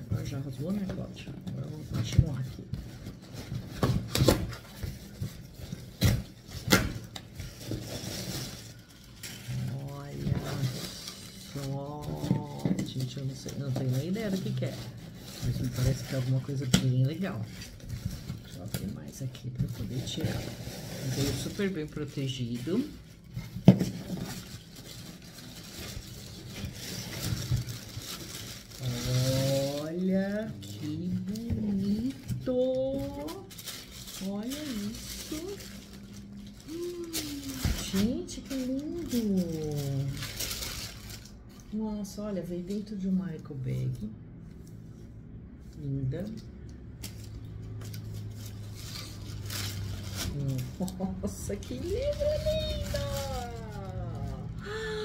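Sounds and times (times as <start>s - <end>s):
packing material rustling: 0.0s - 41.8s, 45.6s - 55.0s.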